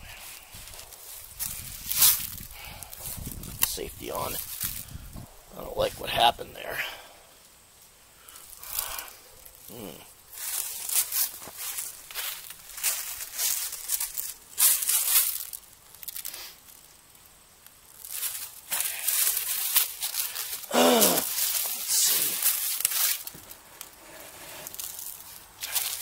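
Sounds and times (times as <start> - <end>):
rustling scratchy noise: 0.0 - 6.8, 7.7 - 26.0.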